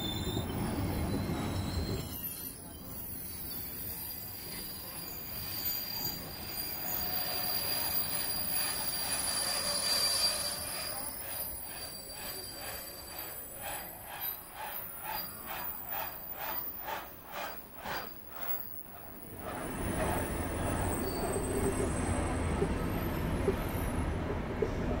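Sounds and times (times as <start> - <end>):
train wheels squealing on rails: 0.0 - 25.0.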